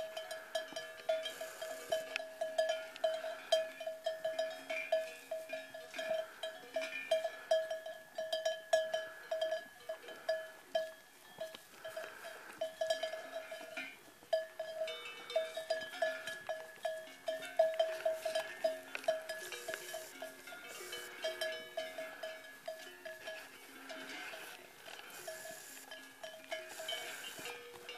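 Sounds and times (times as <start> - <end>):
cowbells clanking: 0.0 - 27.9.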